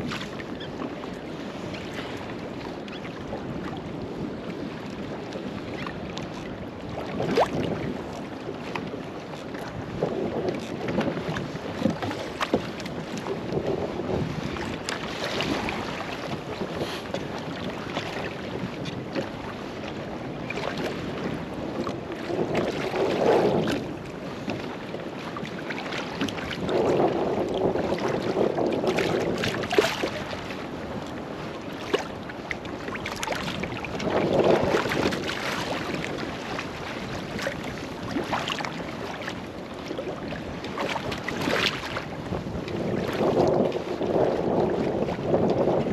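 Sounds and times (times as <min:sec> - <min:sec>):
water lapping against boat: 0:00.0 - 0:45.9
wind buffeting microphone: 0:00.0 - 0:45.9.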